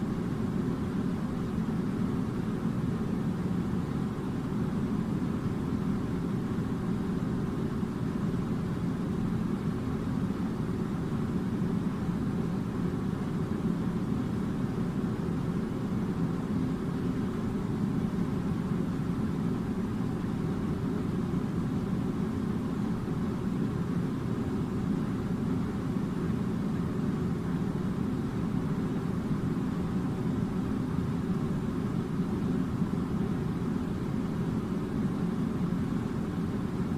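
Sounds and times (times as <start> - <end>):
air conditioner droning: 0.0 - 36.9.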